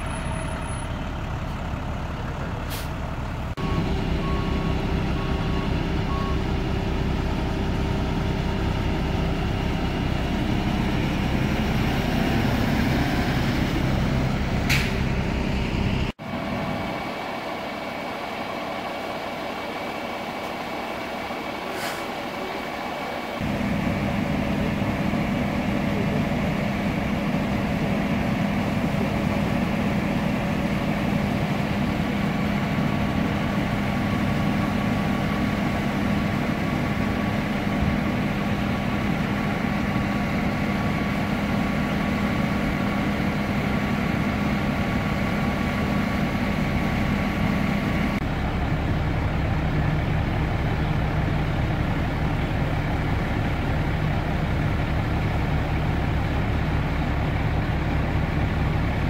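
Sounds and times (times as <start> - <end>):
fire truck engines idling: 0.0 - 59.0.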